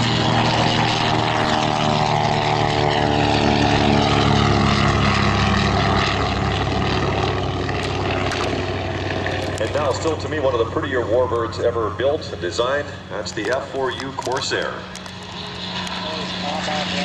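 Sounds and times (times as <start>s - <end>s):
propeller plane engine flyby: 0.0s - 17.0s.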